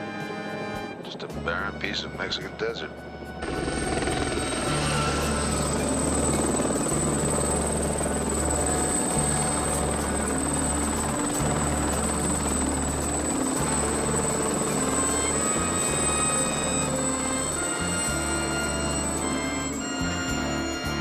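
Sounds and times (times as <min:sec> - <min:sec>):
dramatic music score: 0:00.0 - 0:21.0
helicopter rotor drone: 0:00.0 - 0:21.0.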